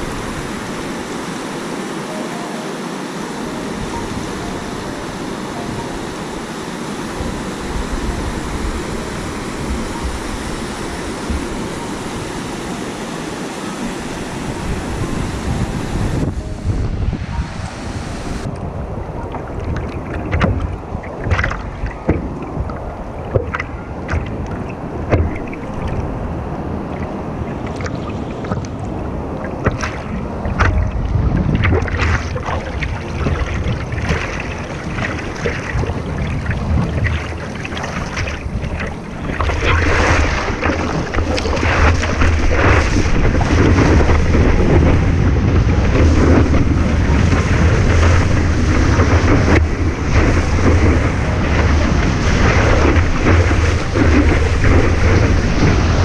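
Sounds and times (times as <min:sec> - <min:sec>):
wind buffeting microphone: 0:00.0 - 0:01.9, 0:03.2 - 0:56.0
ocean surf: 0:00.0 - 0:56.0.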